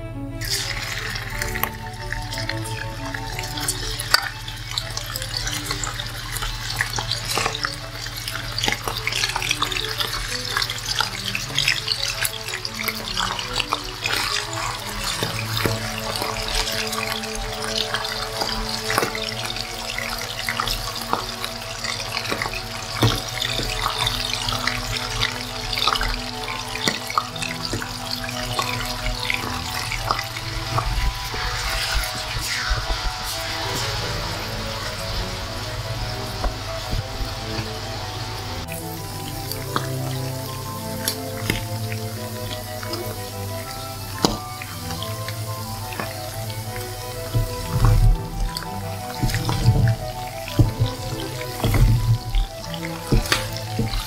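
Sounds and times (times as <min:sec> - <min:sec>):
food sizzling in oil: 0:00.4 - 0:54.0.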